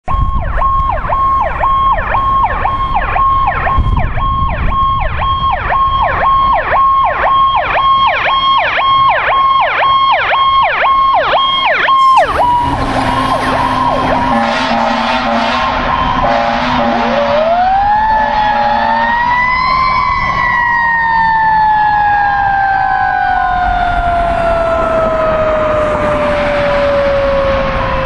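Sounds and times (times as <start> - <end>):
fire engine electronic siren: 0.0 - 28.0.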